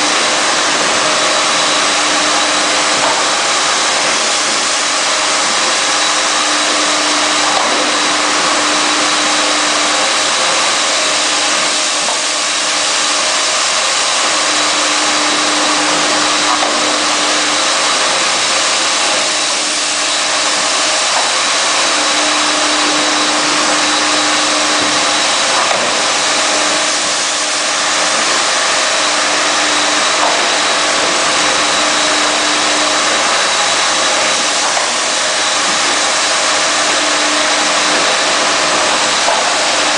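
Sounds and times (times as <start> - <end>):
washing machine rushing noise: 0.0 - 39.9.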